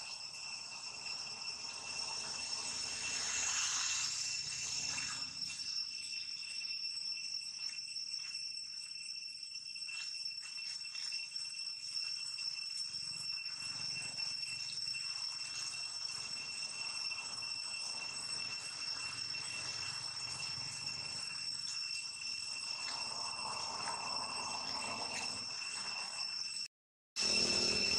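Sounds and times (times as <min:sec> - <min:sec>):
high-pitched insect drone: 0:00.0 - 0:27.9.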